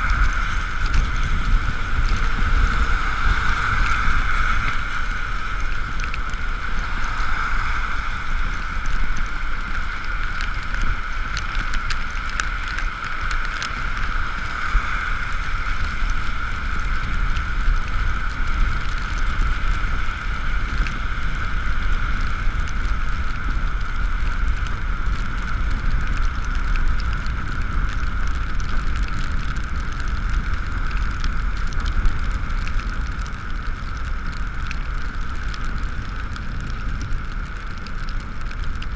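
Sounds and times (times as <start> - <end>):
light taps of rain: 0.0 - 38.9
wind rumble on microphone: 0.0 - 38.9.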